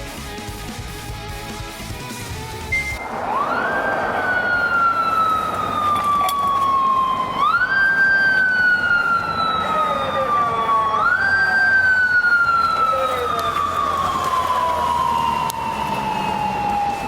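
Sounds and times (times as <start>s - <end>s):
traffic noise: 0.0s - 17.0s
police motorcycle siren wailing: 2.7s - 17.0s.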